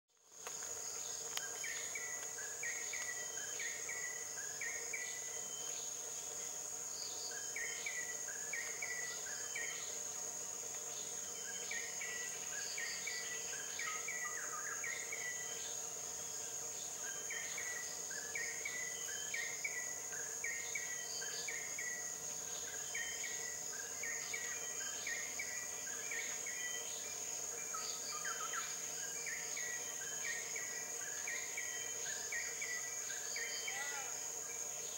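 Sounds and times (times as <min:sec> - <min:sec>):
short insect chirps: 0:00.2 - 0:34.9
high-pitched insect drone: 0:00.3 - 0:34.9.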